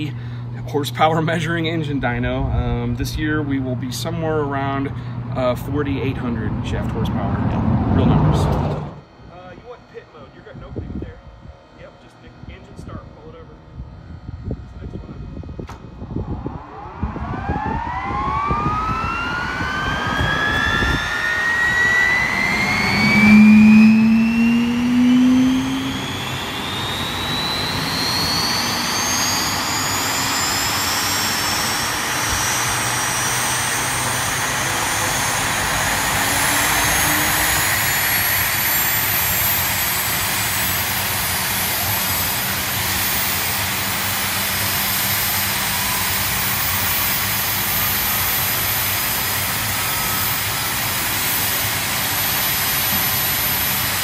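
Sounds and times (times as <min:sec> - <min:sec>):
loud low drone: 0:00.0 - 0:54.0
turbine engine spooling up: 0:00.0 - 0:54.0.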